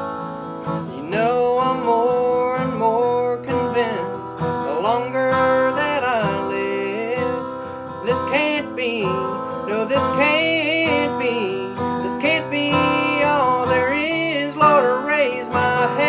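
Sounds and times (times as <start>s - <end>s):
strummed acoustic guitar: 0.0s - 16.0s
man singing: 0.7s - 16.0s.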